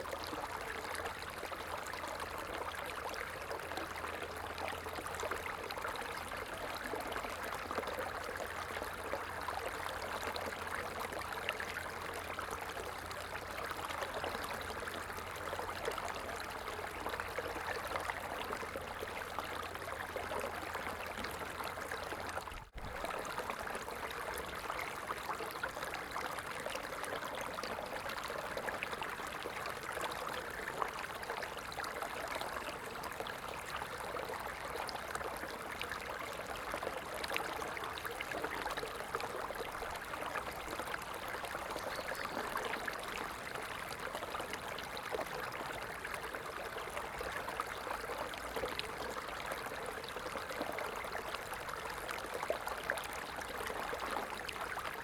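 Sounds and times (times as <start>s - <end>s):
water stream flowing and trickling: 0.0s - 55.0s.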